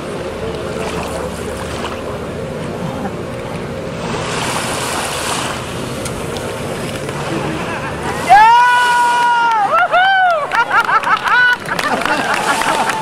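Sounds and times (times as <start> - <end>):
water lapping around kayaks: 0.0 - 13.0
water splashing: 0.0 - 13.0.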